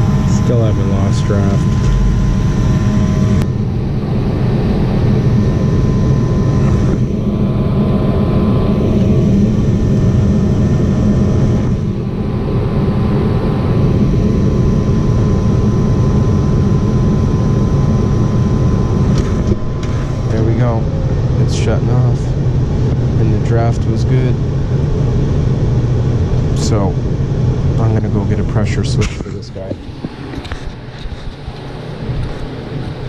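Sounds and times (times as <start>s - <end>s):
furnace burners and fans rushing: 0.0s - 33.0s
steady whine: 0.0s - 33.0s.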